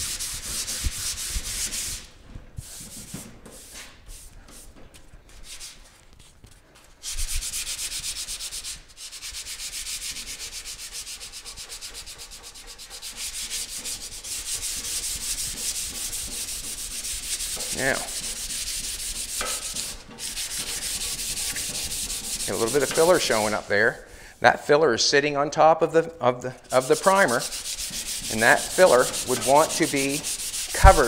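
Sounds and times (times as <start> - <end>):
sandpaper rubbing on metal: 0.0 - 4.7, 5.3 - 5.8, 7.0 - 24.0, 26.7 - 31.0.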